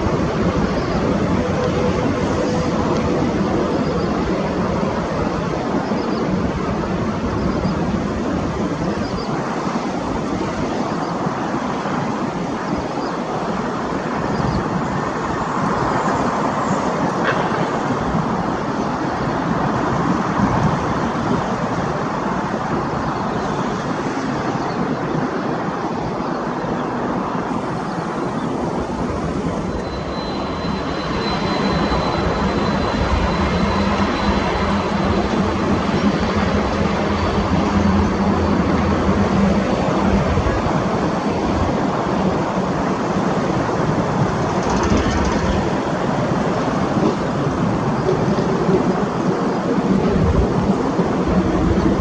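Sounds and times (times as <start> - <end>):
approaching jet whine and hum: 0.0 - 52.0
jet engine rush: 0.0 - 52.0.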